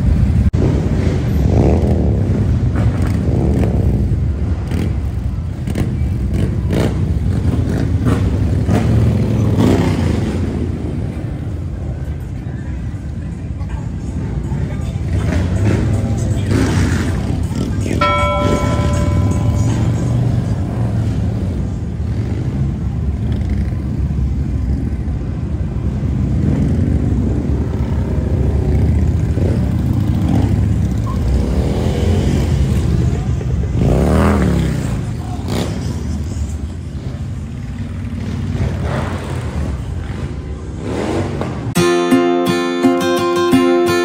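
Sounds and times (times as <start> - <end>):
motorcycles rumbling past: 0.6 - 11.4, 15.1 - 25.1, 26.2 - 41.8.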